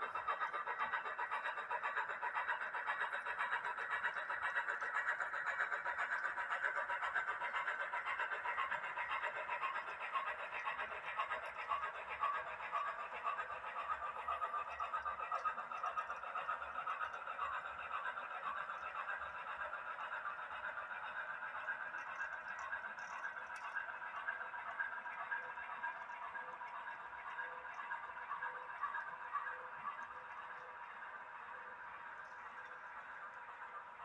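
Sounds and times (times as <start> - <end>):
model train wheels on rail: 0.0 - 34.0.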